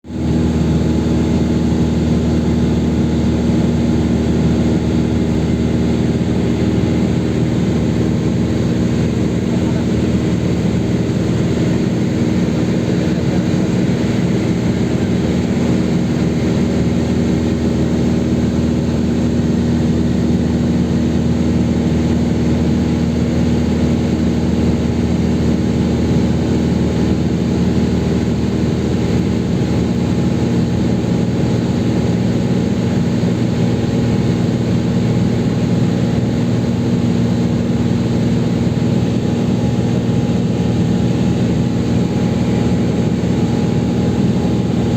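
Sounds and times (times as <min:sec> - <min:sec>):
aircraft engine and propeller drone: 0:00.0 - 0:44.9.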